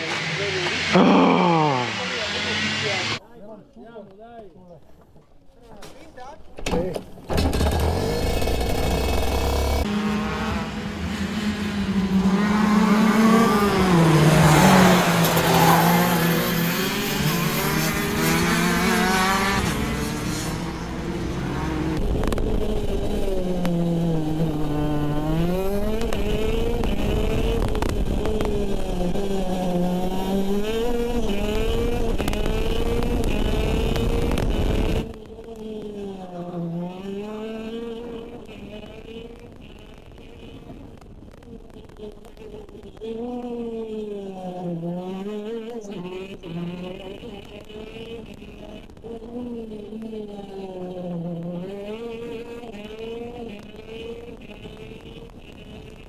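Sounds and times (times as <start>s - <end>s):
go-kart engine racing: 0.0s - 3.2s, 6.6s - 56.0s.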